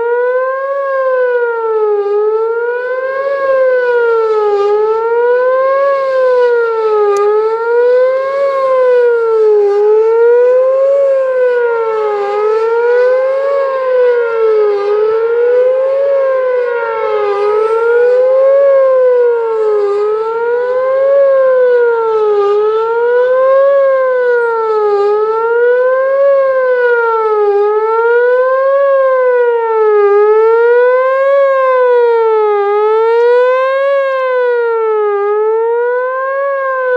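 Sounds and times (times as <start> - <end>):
warning siren wailing: 0.0 - 36.9.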